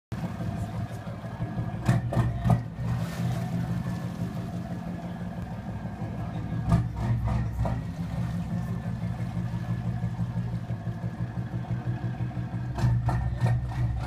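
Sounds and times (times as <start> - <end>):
boat engines humming: 0.1 - 14.0.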